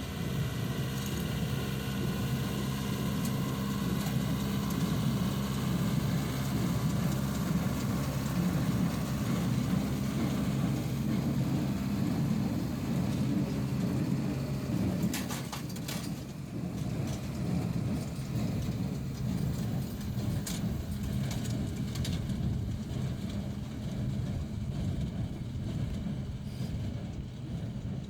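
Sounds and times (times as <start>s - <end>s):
hay baler working: 0.0s - 28.0s
tractor engine running: 0.0s - 28.0s.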